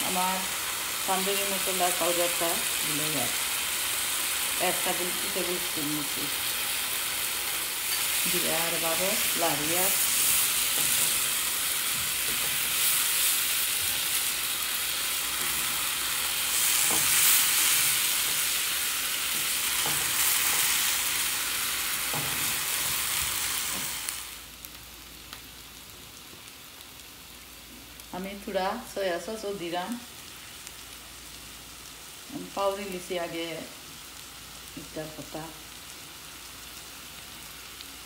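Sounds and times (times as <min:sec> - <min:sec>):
food sizzling in frying pan: 0:00.0 - 0:38.0.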